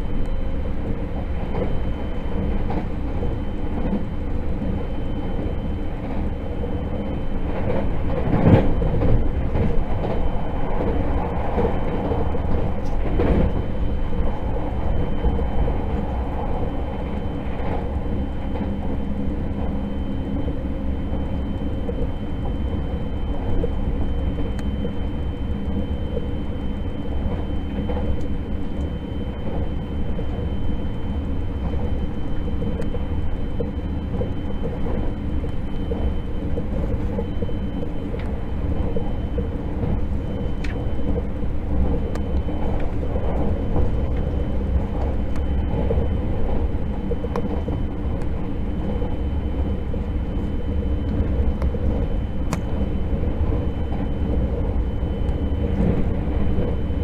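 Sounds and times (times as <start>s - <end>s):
high-pitched train whine: 0.0s - 57.0s
train wheels rumbling on rail: 0.0s - 57.0s.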